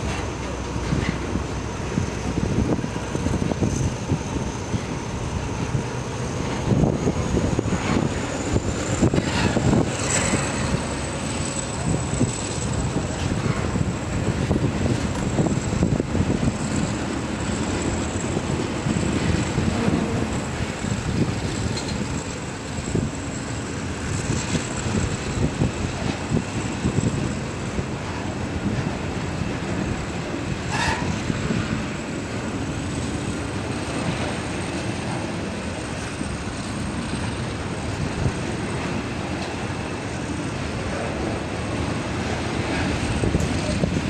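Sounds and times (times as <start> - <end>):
steel wheels rumbling on track: 0.0 - 44.0
wheels clacking over rail joints: 0.0 - 44.0.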